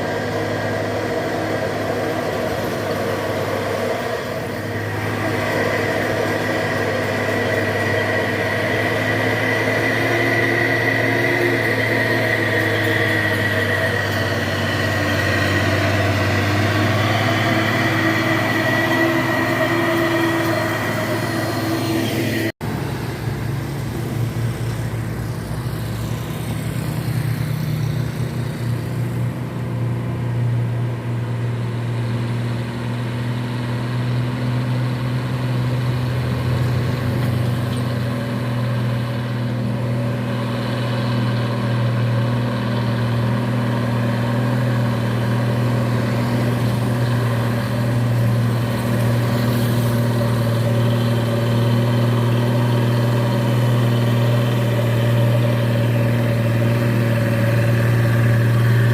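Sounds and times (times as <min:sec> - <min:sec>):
truck engine running: 0:00.0 - 0:58.9.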